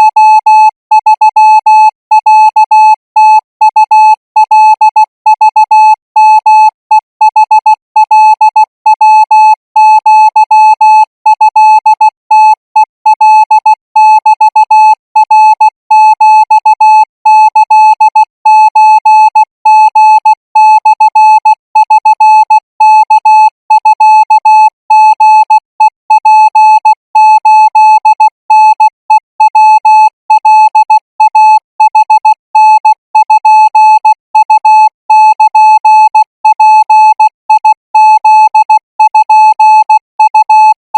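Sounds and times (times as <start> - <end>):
morse code beeps: 0.0 - 40.8.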